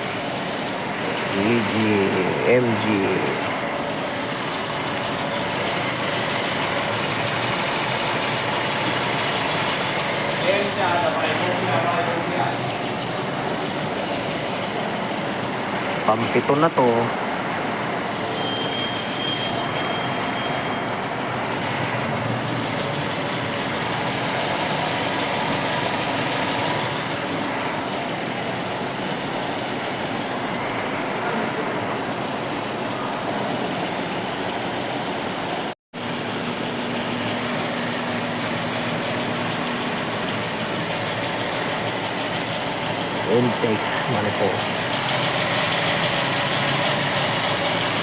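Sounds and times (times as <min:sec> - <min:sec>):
car engine idling: 0:00.0 - 0:19.1, 0:20.1 - 0:48.0.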